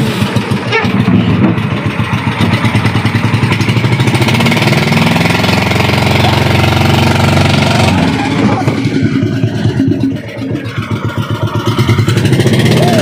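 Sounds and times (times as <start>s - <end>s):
boat engine pulsing: 0.0s - 13.0s.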